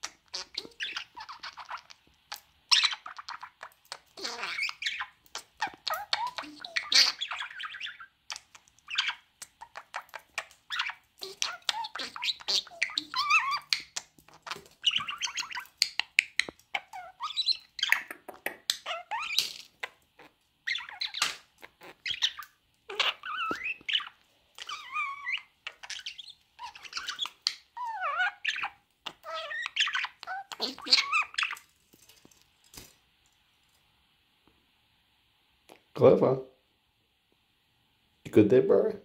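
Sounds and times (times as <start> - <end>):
budgerigar chirping and squawking: 0.0 - 31.7.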